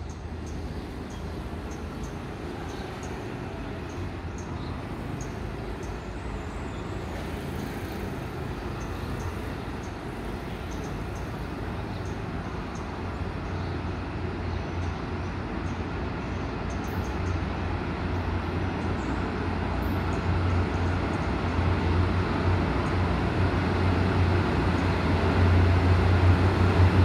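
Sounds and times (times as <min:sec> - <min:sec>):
diesel train rumbling: 0:00.0 - 0:27.0.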